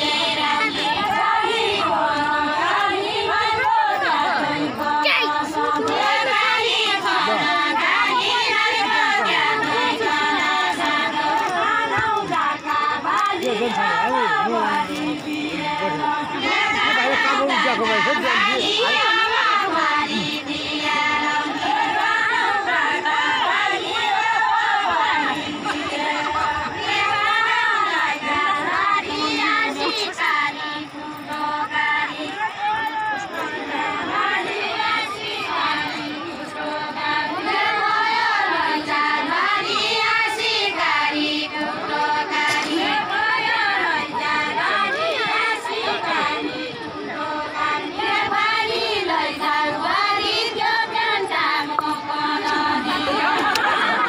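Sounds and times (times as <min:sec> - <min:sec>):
women singing folk song: 0:00.0 - 0:54.0.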